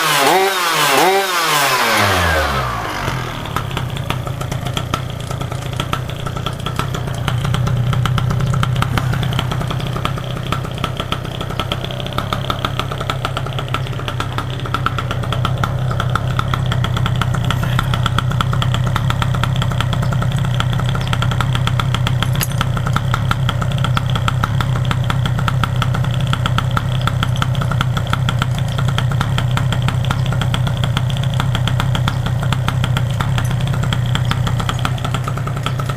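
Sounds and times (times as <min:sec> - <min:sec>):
engine idling: 0:00.1 - 0:35.9.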